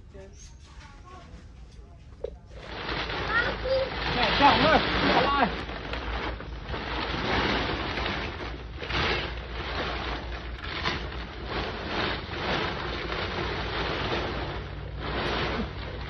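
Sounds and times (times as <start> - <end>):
plastic tarp rustling: 0.0 - 16.0.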